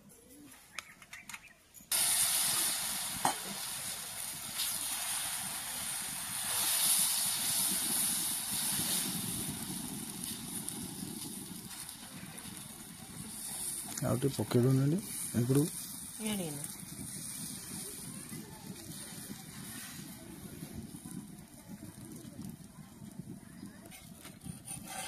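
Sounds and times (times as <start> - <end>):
batter sizzling on a griddle: 1.9 - 25.0.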